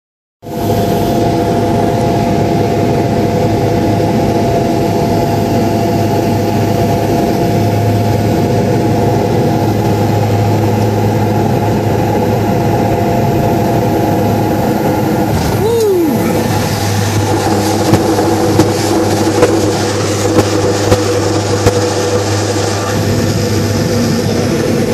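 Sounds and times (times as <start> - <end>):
turboprop engine drone: 0.4 - 24.9.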